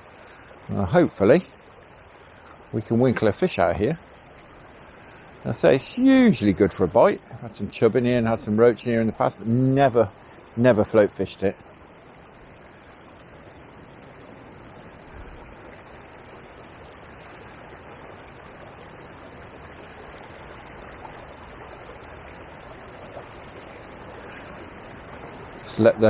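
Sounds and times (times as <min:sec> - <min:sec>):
fast water rushing: 0:00.0 - 0:26.0.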